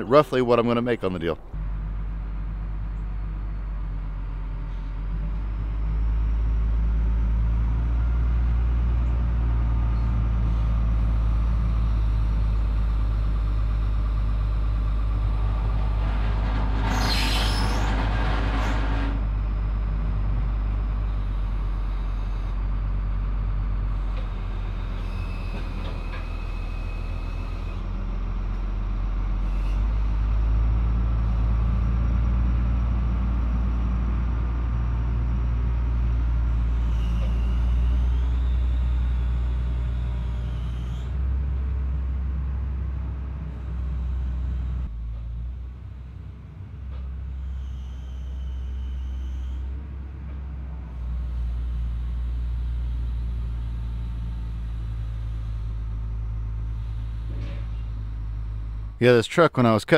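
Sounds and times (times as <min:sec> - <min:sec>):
diesel engine rumbling under load: 0:00.0 - 0:59.9.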